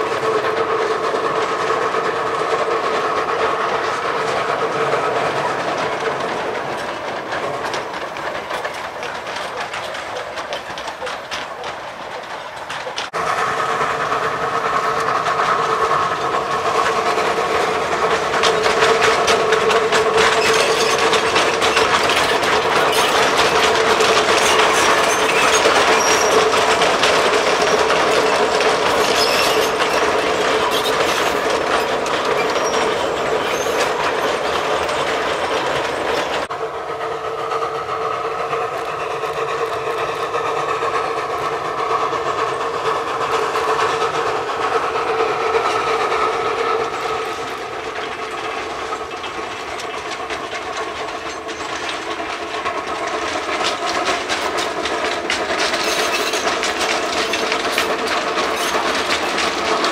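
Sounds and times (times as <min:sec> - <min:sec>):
steam locomotive exhaust: 0:00.0 - 0:59.9
wheels clattering over rails: 0:00.0 - 0:59.9.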